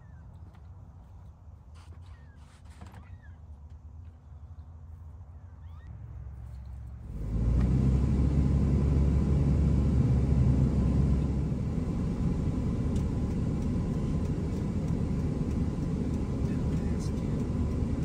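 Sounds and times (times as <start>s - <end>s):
road and engine rumble inside truck: 0.0s - 18.0s.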